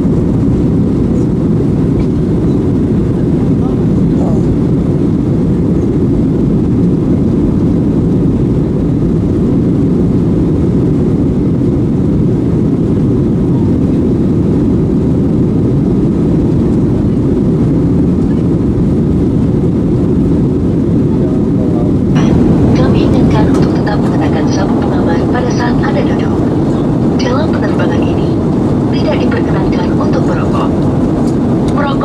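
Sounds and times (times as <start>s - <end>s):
jet engine cabin rumble: 0.0s - 32.0s.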